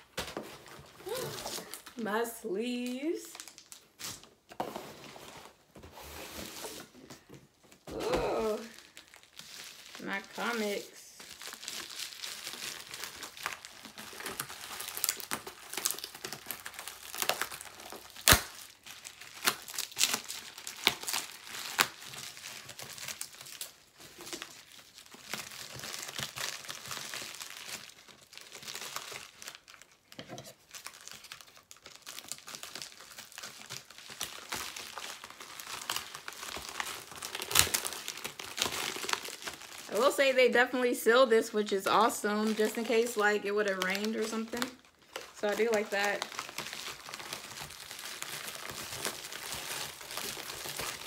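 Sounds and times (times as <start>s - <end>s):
plastic packaging crinkling and tearing: 0.0s - 51.0s.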